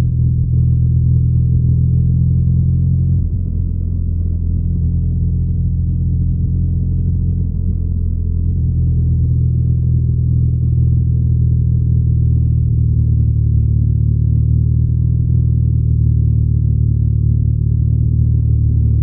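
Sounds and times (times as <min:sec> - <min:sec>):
motorcycle exhaust droning: 0:00.0 - 0:19.0.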